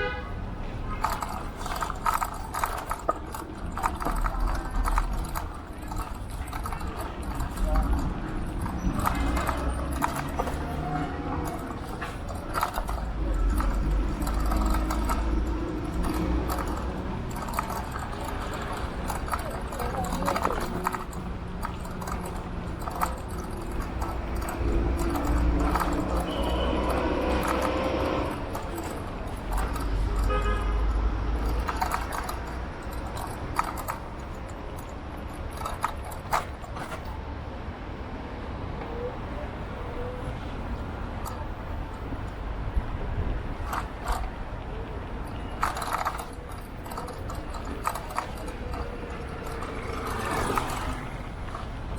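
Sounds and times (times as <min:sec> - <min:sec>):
scooter clicks and rattles: 0:00.0 - 0:37.6, 0:40.0 - 0:51.9
road and wind rumble: 0:00.0 - 0:51.9.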